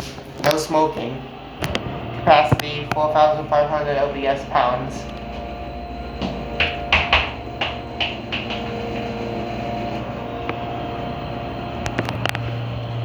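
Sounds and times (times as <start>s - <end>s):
freight elevator hum: 0.0s - 13.0s.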